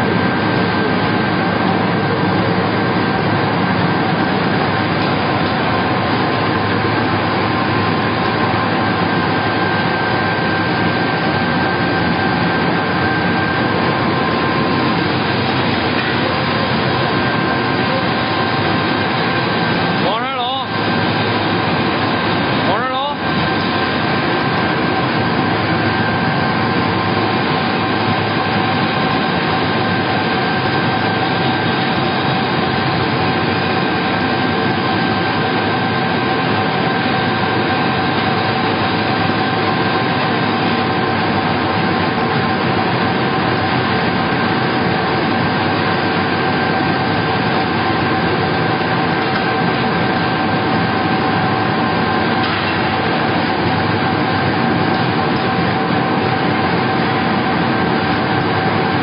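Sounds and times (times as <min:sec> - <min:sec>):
machine din with whine: 0:00.0 - 0:59.0.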